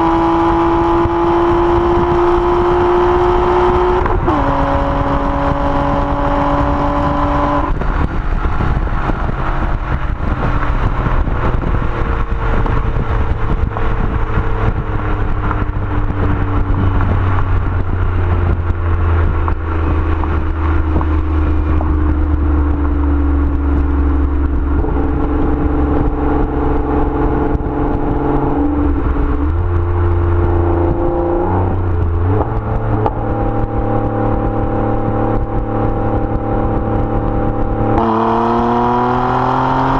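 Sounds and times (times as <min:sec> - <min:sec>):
car engine and exhaust revving: 0:00.0 - 0:39.9.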